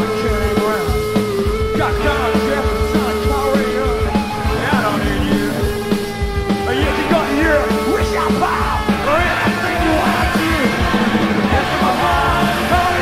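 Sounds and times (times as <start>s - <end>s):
punk rock band playing: 0.0s - 13.0s
sliding lead guitar lines: 0.0s - 13.0s.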